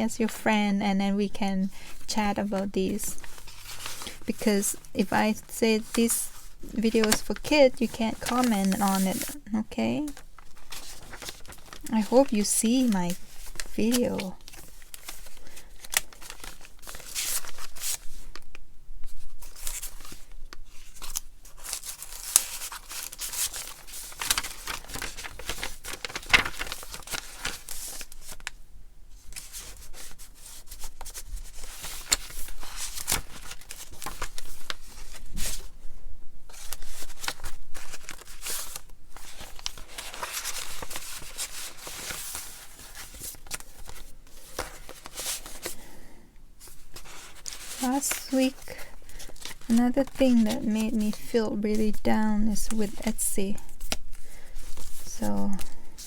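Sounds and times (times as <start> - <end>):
paper pages rustling and crinkling: 1.6 - 35.9, 36.5 - 56.0.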